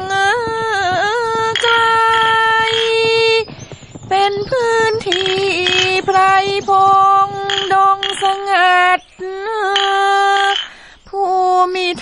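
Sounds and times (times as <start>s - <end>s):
woman singing slow song: 0.0s - 3.5s, 4.1s - 12.0s.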